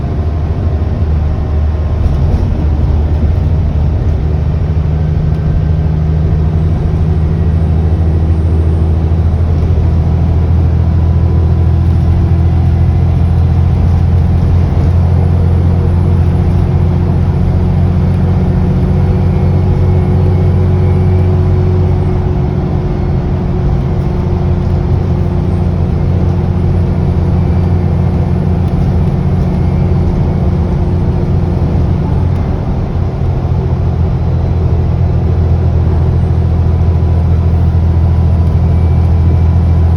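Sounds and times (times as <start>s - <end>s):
bus diesel engine running: 0.0s - 39.9s
turbocharger whine: 0.0s - 39.9s.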